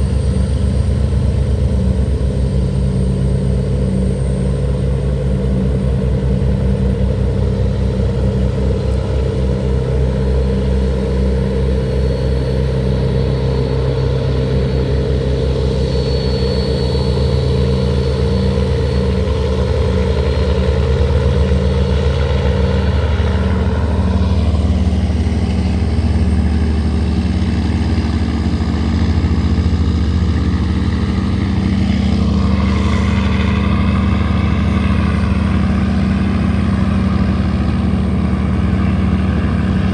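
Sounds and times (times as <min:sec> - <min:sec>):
tugboat engines running hard: 0:00.0 - 0:39.9.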